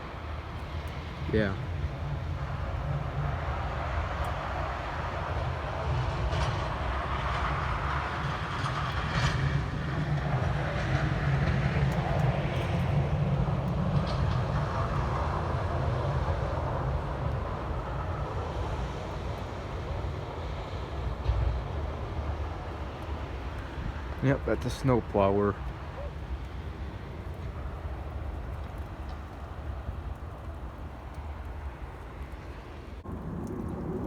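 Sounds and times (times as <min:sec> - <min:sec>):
snowplow truck engine rumble: 0:00.0 - 0:34.0.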